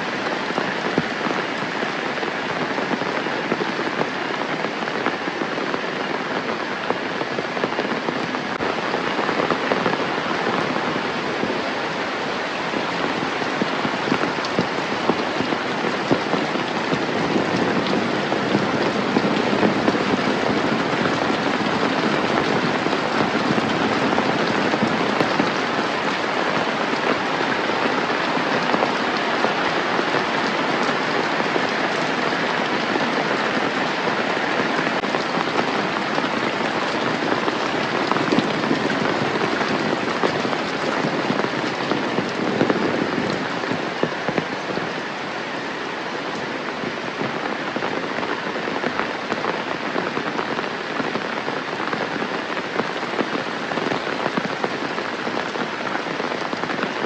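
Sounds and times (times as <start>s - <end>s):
heavy rain hiss: 0.0s - 57.0s
raindrops ticking on surfaces: 0.0s - 57.0s.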